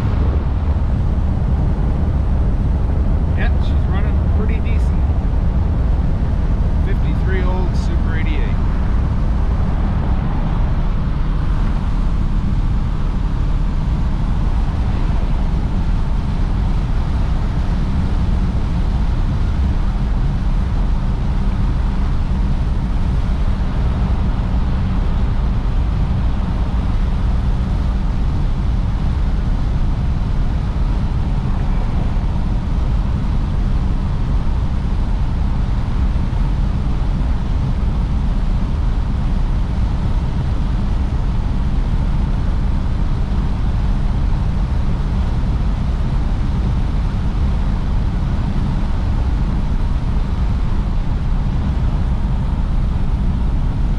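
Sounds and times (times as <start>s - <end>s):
car engine low rumble: 0.0s - 53.9s
road and wind noise: 0.0s - 53.9s.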